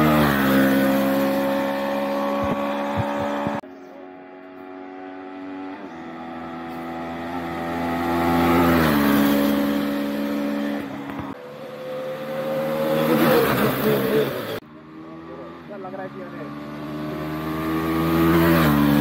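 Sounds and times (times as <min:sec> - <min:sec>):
motorcycle engine passing by: 0:00.0 - 0:19.0.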